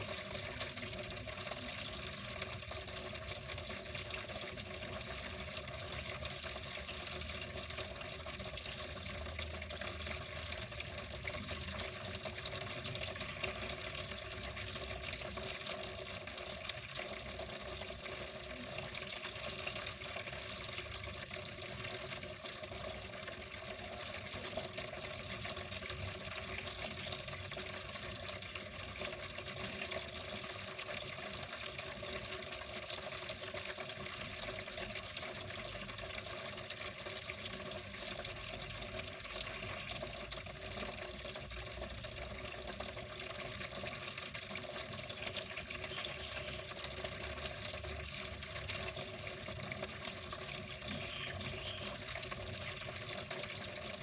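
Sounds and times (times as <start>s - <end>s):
water trickling steadily: 0.0s - 54.0s.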